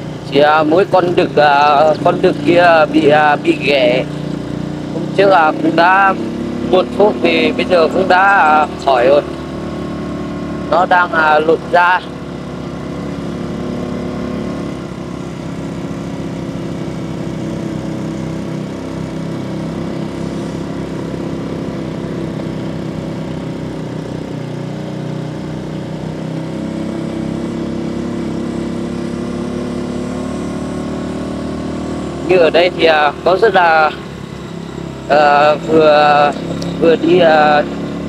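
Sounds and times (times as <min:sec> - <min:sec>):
road noise: 0:00.0 - 0:38.0
small motorbike engine running: 0:00.0 - 0:38.0.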